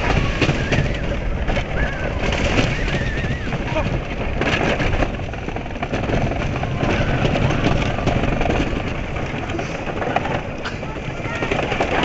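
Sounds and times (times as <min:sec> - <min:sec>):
roller coaster rumbling and clattering: 0:00.0 - 0:12.0
wind on microphone: 0:00.0 - 0:12.0.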